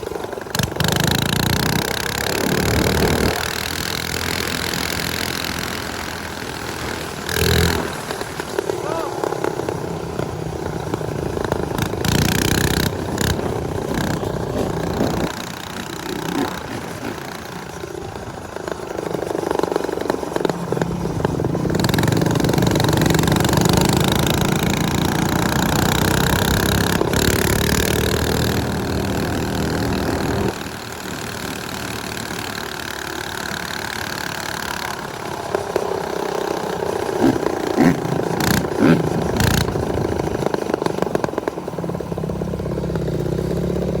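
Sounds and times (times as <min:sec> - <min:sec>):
small motorcycle engines running: 0:00.0 - 0:44.0.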